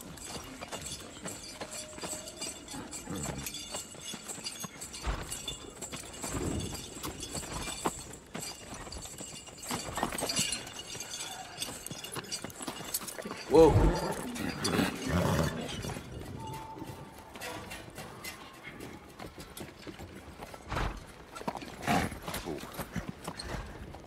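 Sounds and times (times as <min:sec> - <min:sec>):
hooves clopping on dirt: 0:00.0 - 0:24.0
metallic clinks: 0:00.0 - 0:24.0.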